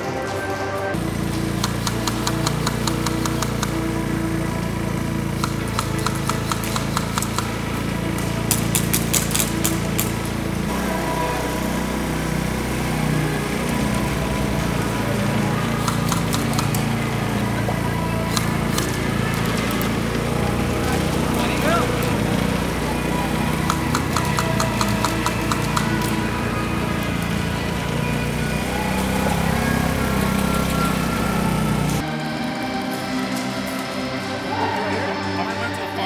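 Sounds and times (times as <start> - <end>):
small engine running: 0.0 - 36.0
airsoft guns firing rapidly: 1.0 - 31.1.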